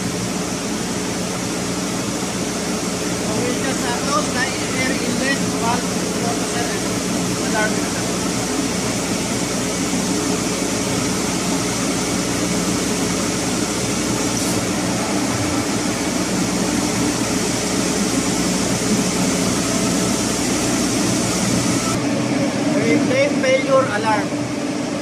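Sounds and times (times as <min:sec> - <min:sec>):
gas generator droning: 0:00.0 - 0:25.0.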